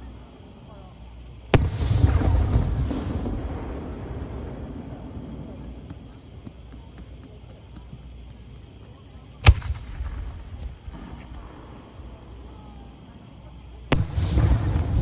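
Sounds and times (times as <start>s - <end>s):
insects chirping: 0.0s - 15.0s
firework shells bursting: 1.3s - 15.0s.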